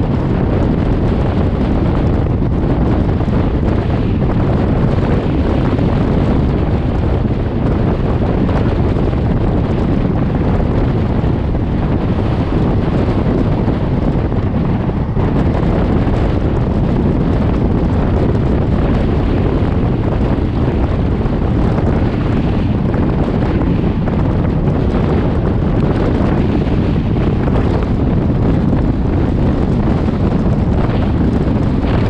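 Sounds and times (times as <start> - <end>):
train rumbling on rails: 0.0 - 32.0
wind rushing over microphone: 0.0 - 32.0.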